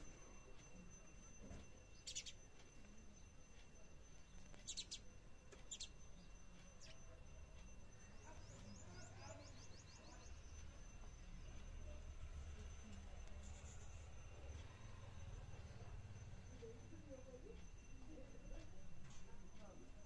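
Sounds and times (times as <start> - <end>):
sparrows chirping faintly: 0.0 - 20.0.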